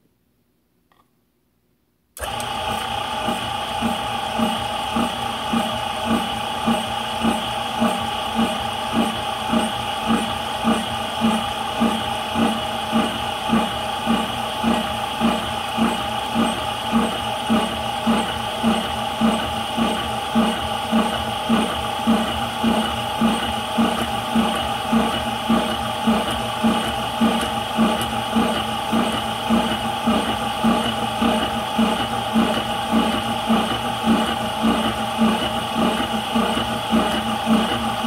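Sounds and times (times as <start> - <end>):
air compressor pulsing with whine: 2.2 - 38.0.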